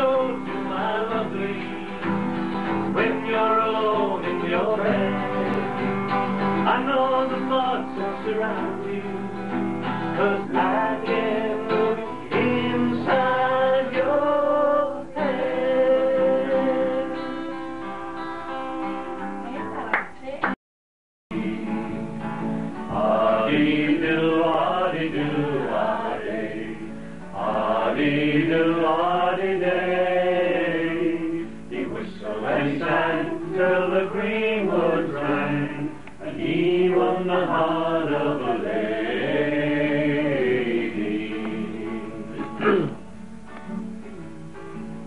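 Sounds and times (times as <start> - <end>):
men singing: 0.0 - 18.3, 21.3 - 22.1, 22.9 - 43.0
acoustic guitar: 0.0 - 20.6, 21.3 - 45.0.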